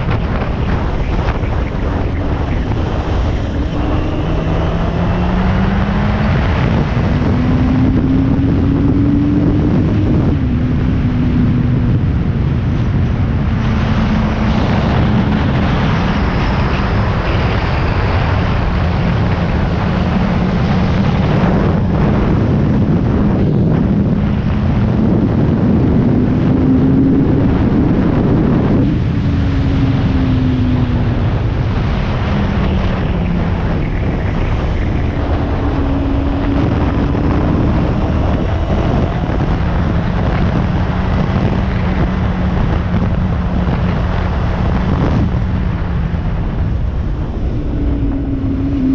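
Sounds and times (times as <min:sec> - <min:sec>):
motorcycle engine revving: 0:00.0 - 0:48.9
wind noise on microphone: 0:00.0 - 0:48.9.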